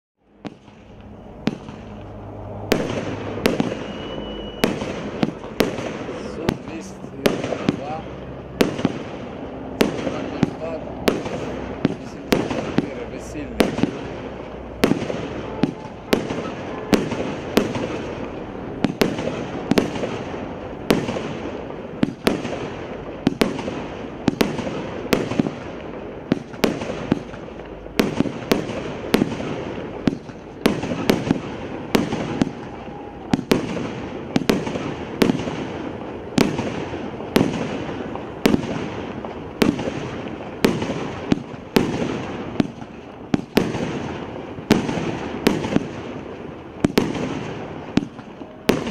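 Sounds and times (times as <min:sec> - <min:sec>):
crackle of bursting fireworks: 0:00.2 - 0:48.9
fireworks bangs: 0:00.3 - 0:48.9.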